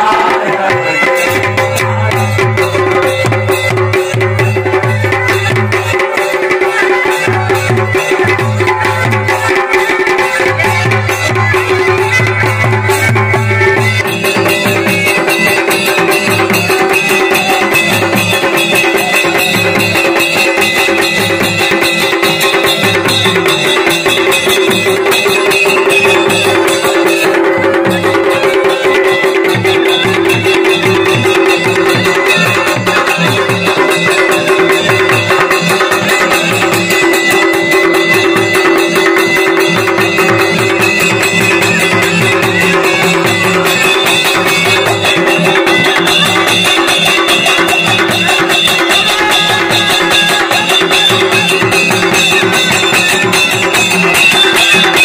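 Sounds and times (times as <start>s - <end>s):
drums beating quick rhythm: 0.0s - 55.0s.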